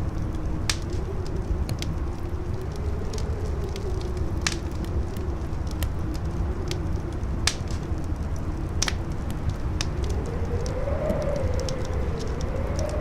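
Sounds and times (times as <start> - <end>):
fire crackling and popping: 0.0 - 13.0
howling wind: 0.0 - 13.0.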